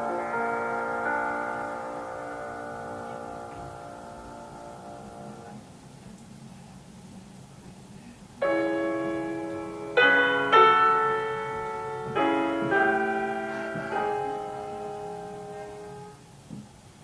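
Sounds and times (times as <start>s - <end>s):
slow classical piano chords: 0.0s - 6.1s, 8.0s - 17.0s.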